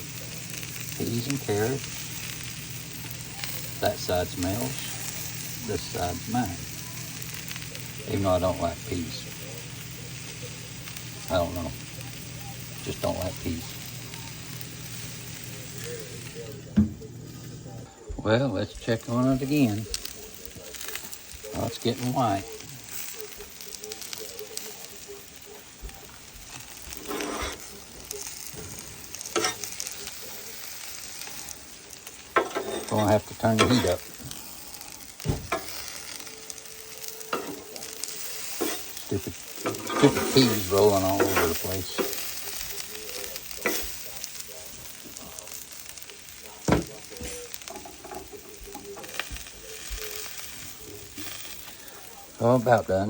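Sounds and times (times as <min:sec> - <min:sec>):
food sizzling on a grill: 0:00.0 - 0:53.0.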